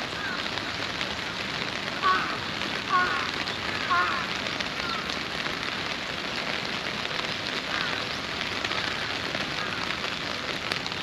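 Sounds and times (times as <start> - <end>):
rain pattering on plastic umbrella: 0.0 - 11.0.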